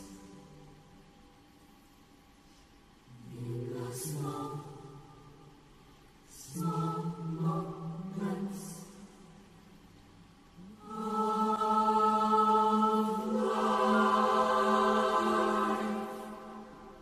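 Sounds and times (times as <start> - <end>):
choir singing a sustained chord: 0.0 - 1.6, 3.1 - 17.0.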